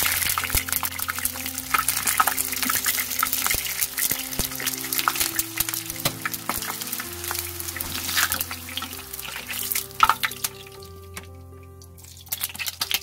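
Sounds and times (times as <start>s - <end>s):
peppers sizzling in hot oil: 0.0s - 10.8s, 12.0s - 13.0s
background music: 0.0s - 13.0s.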